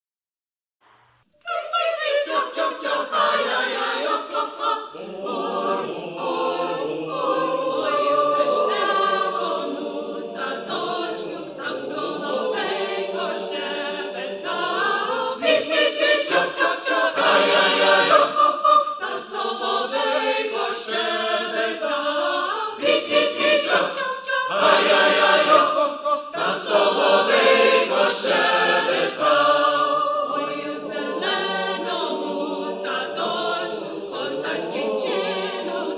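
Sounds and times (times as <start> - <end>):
mixed choir singing a cappella: 1.4 - 35.9.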